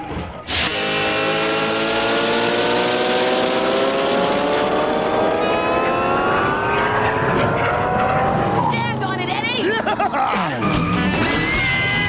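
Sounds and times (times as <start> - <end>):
cartoon engine revving: 0.5 - 12.0.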